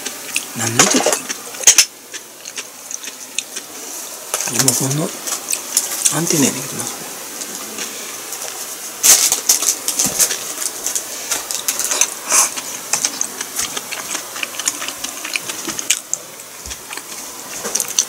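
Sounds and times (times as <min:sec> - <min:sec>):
chewing crunches: 0:00.0 - 0:06.1, 0:08.6 - 0:18.0.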